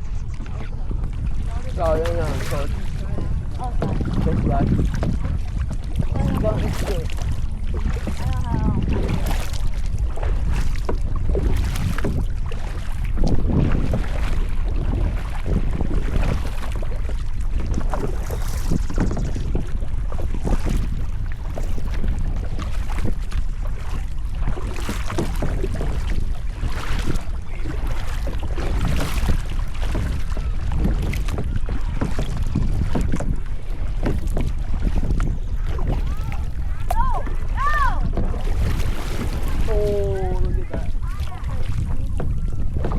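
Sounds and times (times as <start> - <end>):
water splashing around kayak: 0.0 - 42.9
wind rumble on microphone: 0.0 - 42.9.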